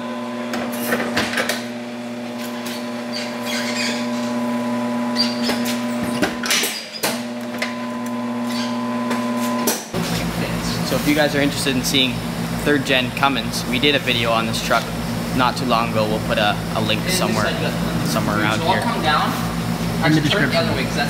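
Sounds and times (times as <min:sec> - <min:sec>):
electric motor hum: 0:00.0 - 0:06.5, 0:07.2 - 0:21.0.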